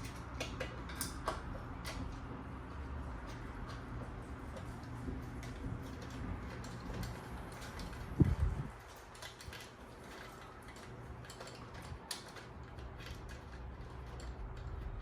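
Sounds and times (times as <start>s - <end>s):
hand tools clicking and ticking: 0.0s - 15.0s.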